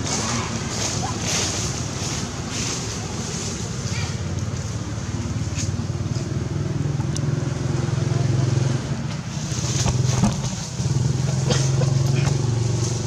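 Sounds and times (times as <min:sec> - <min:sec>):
motorbike driving by: 0:00.0 - 0:13.0.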